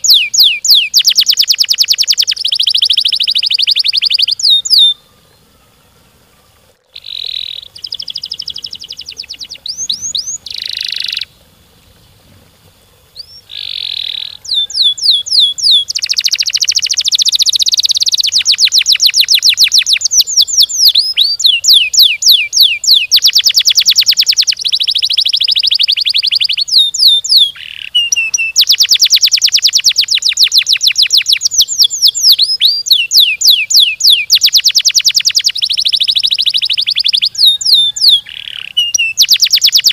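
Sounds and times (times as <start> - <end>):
canary singing trills: 0.0 - 11.4, 12.0 - 39.9.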